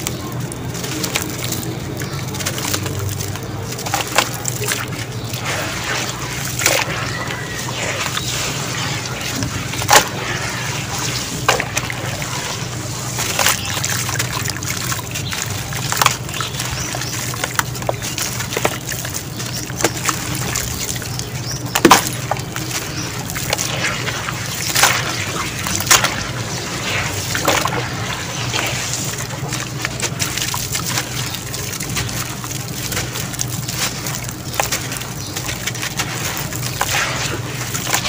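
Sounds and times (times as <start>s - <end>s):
hands squelching in wet slurry: 0.0s - 38.0s
wet splats: 0.0s - 38.0s.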